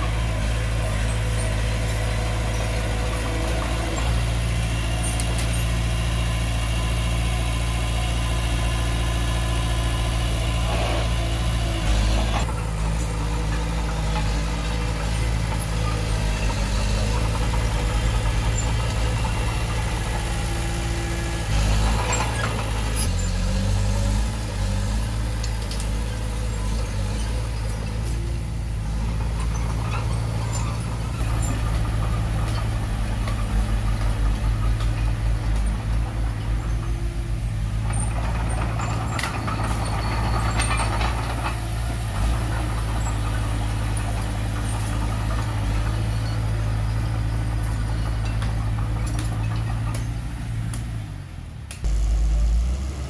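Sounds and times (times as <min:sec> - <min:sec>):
heavy machinery engine running: 0:00.0 - 0:53.0.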